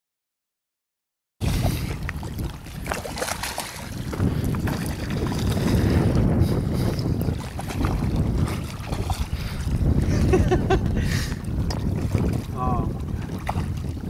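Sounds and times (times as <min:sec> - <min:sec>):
water lapping at shoreline: 0:01.4 - 0:14.0
wind rumbling on microphone: 0:01.4 - 0:14.0.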